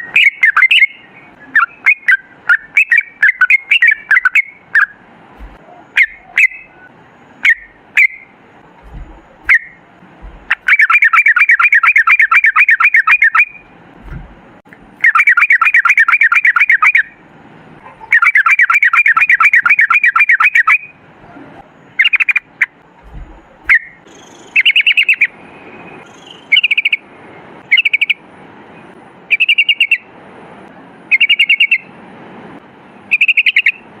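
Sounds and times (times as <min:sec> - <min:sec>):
bulbul singing: 0:00.0 - 0:17.3, 0:18.0 - 0:21.0, 0:21.8 - 0:28.2, 0:29.3 - 0:30.1, 0:31.1 - 0:31.9, 0:33.1 - 0:33.9.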